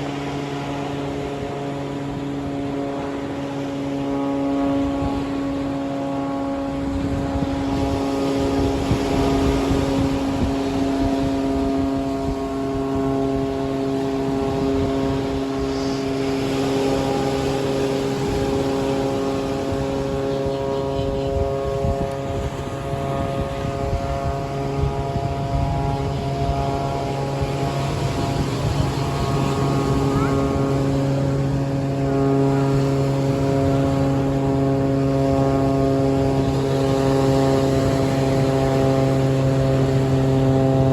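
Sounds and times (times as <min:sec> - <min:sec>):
motor engine droning: 0:00.0 - 0:40.9
surf washing: 0:00.0 - 0:40.9.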